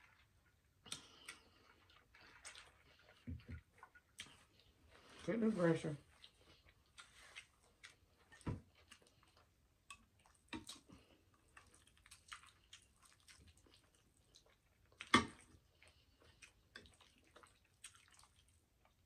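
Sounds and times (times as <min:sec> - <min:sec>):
wet chewing and mouth clicks: 0:00.0 - 0:05.2, 0:06.0 - 0:19.0.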